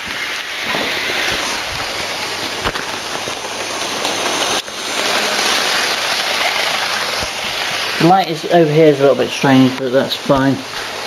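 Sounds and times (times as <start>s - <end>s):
model train rattling on track: 0.0s - 10.3s.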